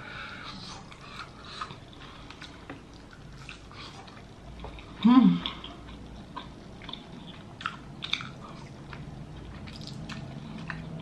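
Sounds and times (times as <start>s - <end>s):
mouth chewing with wet smacks: 0.6s - 11.0s.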